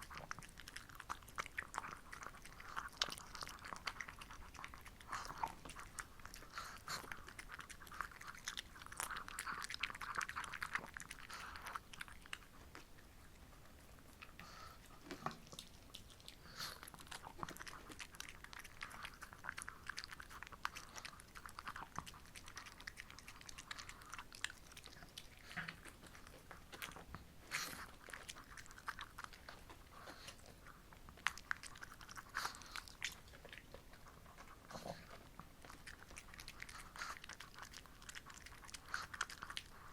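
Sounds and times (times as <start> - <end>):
dog chewing and crunching treat: 0.0 - 39.9.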